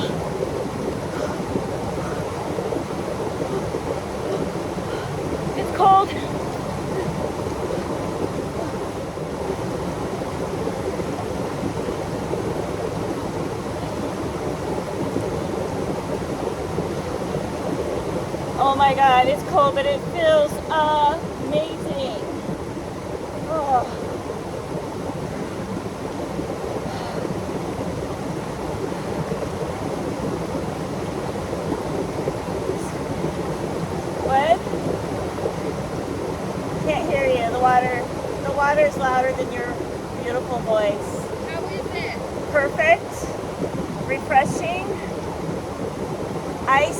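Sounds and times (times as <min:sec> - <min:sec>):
flowing creek water: 0:00.0 - 0:46.9.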